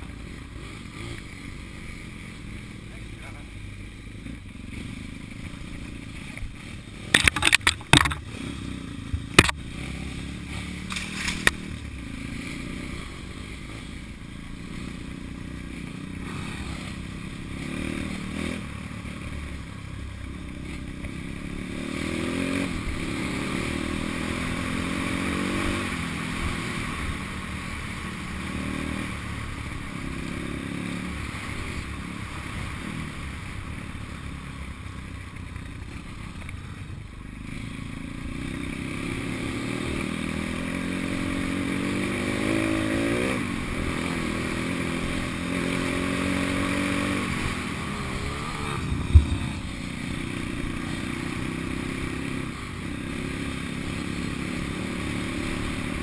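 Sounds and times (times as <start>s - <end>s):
dirt bike engine revving: 0.3s - 19.5s, 20.5s - 33.2s, 37.5s - 56.0s.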